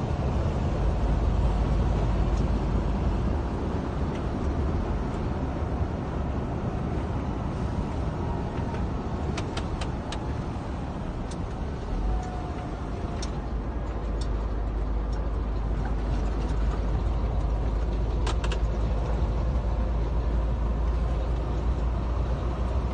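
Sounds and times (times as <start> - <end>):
truck diesel engine rumble: 0.0 - 22.9.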